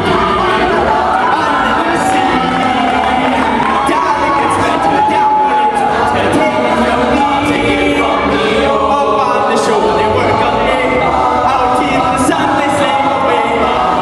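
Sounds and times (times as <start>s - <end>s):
group singing in harmony: 0.0s - 14.0s.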